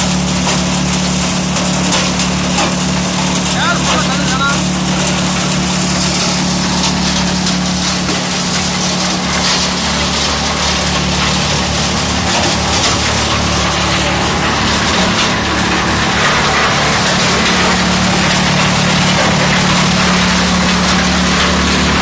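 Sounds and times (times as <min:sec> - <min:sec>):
motor hum: 0:00.0 - 0:22.0.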